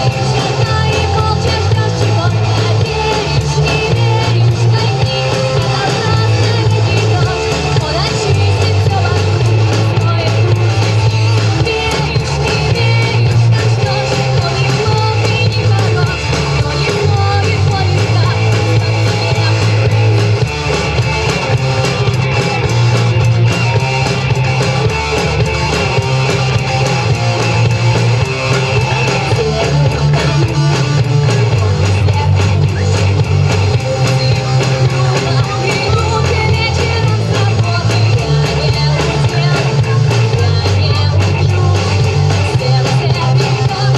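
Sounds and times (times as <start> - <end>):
bass line: 0.0 - 43.9
rock band playing: 0.0 - 43.9.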